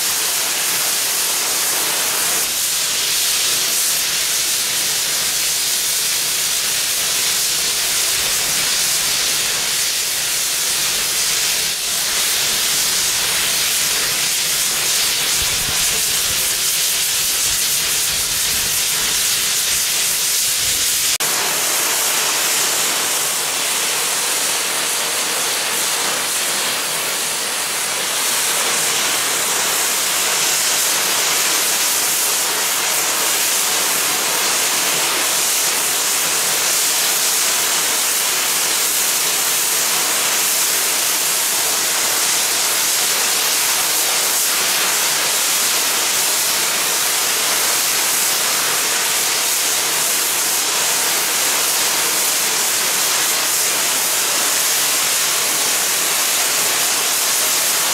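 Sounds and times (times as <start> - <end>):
steam hissing from locomotive: 0.0 - 57.9.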